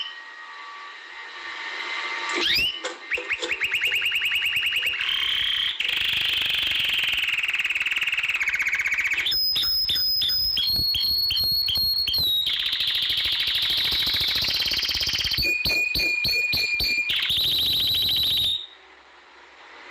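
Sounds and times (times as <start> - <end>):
canary singing trills: 2.4 - 18.6
high piercing whistled notes: 2.4 - 18.8.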